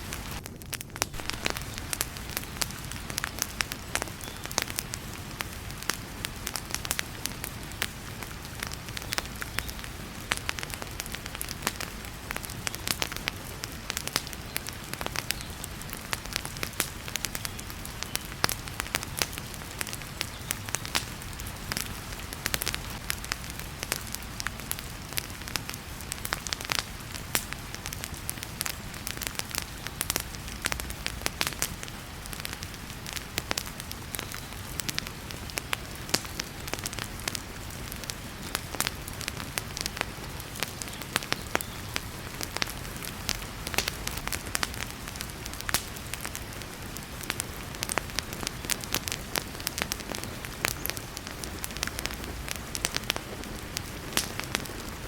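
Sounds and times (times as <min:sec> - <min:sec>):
heavy rain hiss: 0:00.0 - 0:00.4, 0:01.1 - 0:55.0
wood fire crackling: 0:00.0 - 0:55.0.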